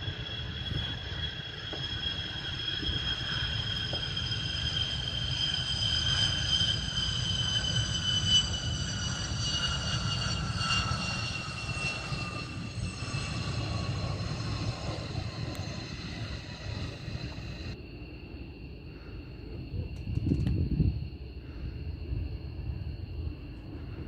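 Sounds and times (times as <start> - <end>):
jet engines whining and rumbling: 0.0 - 24.0.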